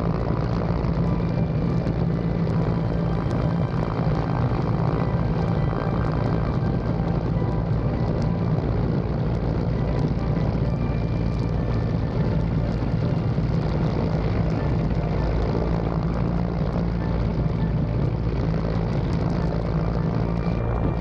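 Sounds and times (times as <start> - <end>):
helicopter rotors and engines droning: 0.0 - 21.0.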